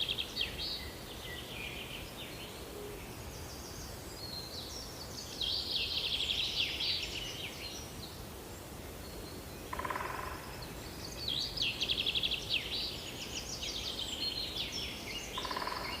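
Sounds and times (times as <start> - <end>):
songbird chirping trills: 0.0 - 16.0
steady background hiss: 0.0 - 16.0.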